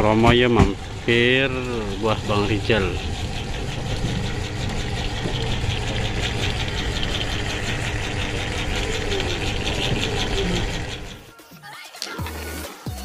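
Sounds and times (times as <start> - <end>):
engine idling: 0.0 - 11.3.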